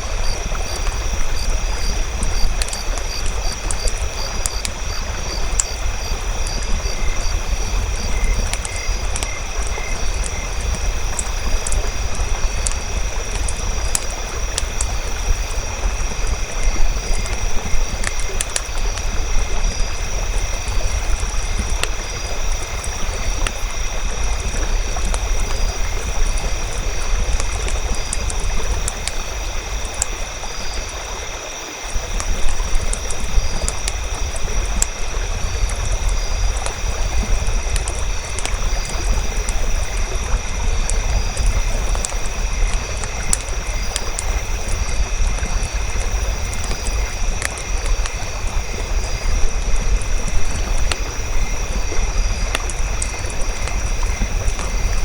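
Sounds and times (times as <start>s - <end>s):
campfire crackling and popping: 0.0s - 55.0s
fire hiss and low rumble: 0.0s - 55.0s.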